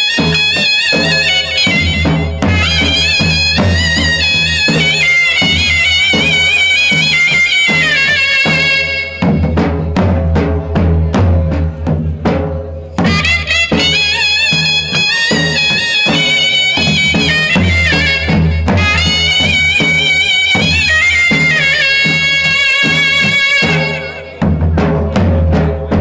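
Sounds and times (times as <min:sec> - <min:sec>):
reedy wind instrument melody: 0:00.0 - 0:10.0, 0:13.0 - 0:25.2
steady drum beat: 0:00.0 - 0:26.0.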